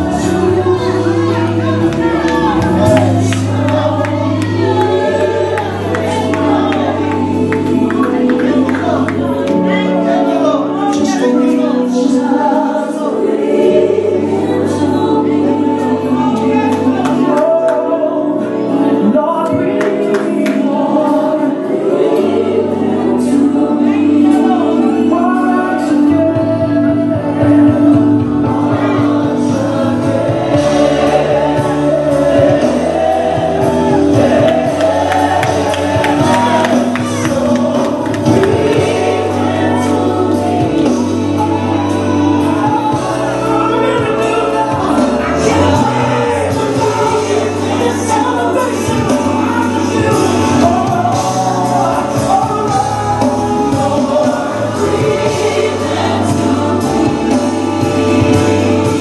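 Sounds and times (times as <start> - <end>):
band playing: 0.0 - 59.0
voices singing gospel: 0.0 - 59.0.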